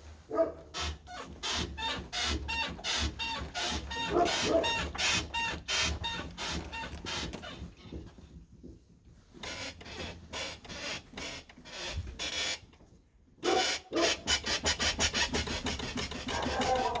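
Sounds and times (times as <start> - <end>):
truck suspension creaking: 0.4 - 8.6, 9.2 - 12.9, 13.5 - 17.0.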